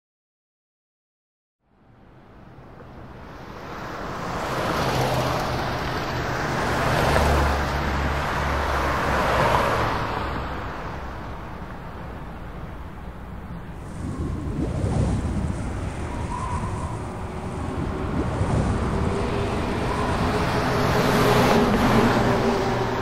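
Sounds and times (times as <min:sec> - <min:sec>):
road traffic noise: 0:01.7 - 0:23.0
cars passing: 0:01.9 - 0:23.0.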